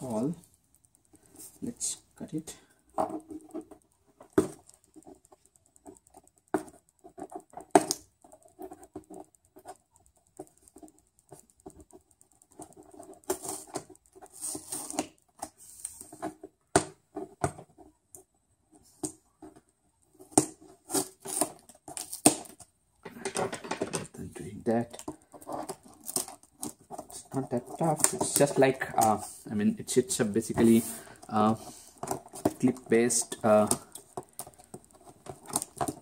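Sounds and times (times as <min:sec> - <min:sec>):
fingers scratching on cardboard: 0:02.9 - 0:18.0, 0:18.7 - 0:22.7, 0:24.7 - 0:36.0.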